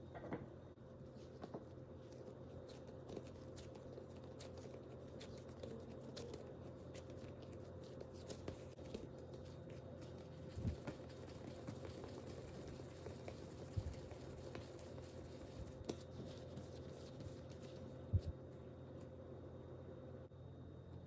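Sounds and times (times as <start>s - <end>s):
steady low hum: 0.0s - 21.0s
hands patting bread dough: 1.1s - 18.5s.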